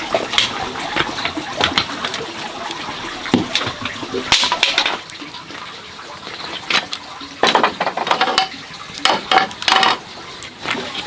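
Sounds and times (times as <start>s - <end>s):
water splashing and pouring: 0.0s - 11.0s.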